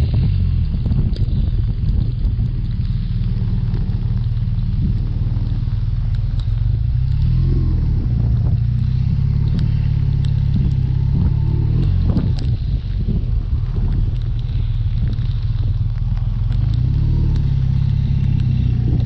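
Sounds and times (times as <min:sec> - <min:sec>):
motorcycle engine running: 0:00.0 - 0:19.0
wind and wet road hiss: 0:00.0 - 0:19.0.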